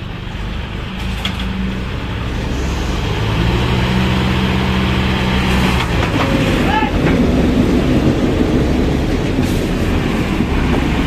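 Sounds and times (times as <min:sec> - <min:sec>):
tractor diesel engines straining: 0:00.0 - 0:11.0.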